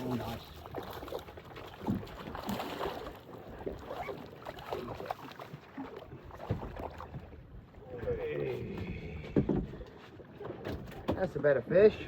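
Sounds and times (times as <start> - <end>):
short splashes and knocks: 0.0 - 11.9
water lapping against boat hull: 0.0 - 12.0.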